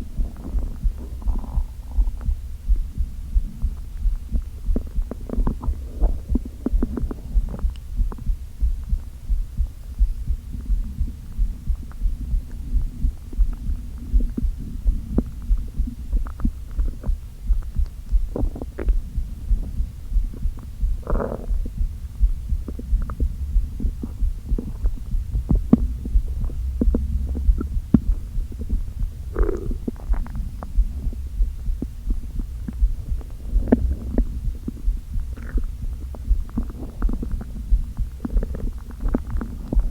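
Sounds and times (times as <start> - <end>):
low heartbeat-like pulse: 0.0 - 39.9
stomach gurgles: 0.0 - 39.9.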